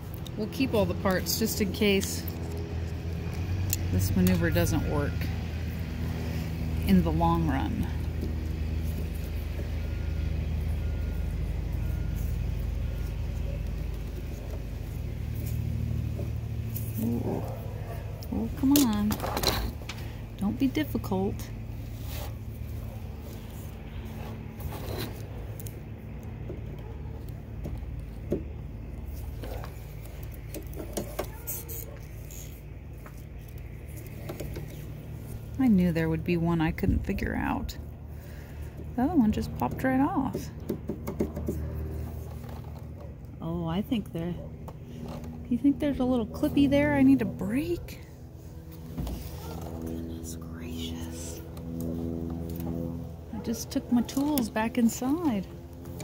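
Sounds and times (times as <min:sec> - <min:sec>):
steady low hum: 0:00.0 - 0:56.0
vehicle engine idling: 0:00.0 - 0:56.0.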